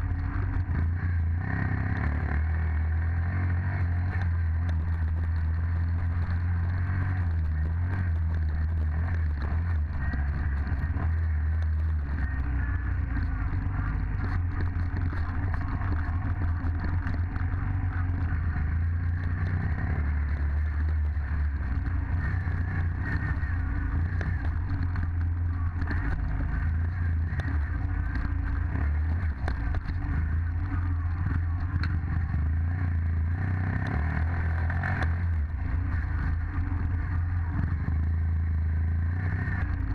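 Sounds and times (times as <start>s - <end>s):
dirt bike engine running: 0.0s - 39.9s
light rattles and clatter: 0.0s - 39.9s.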